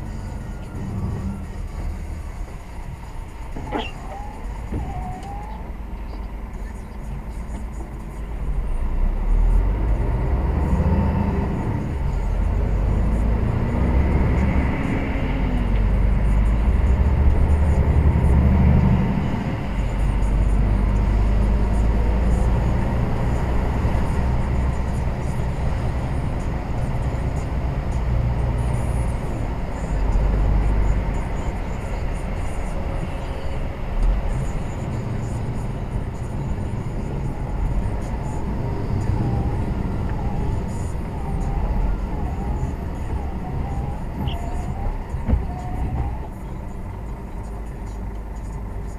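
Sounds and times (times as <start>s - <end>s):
lorry engine drone: 0.0s - 48.9s
road noise: 0.0s - 48.9s.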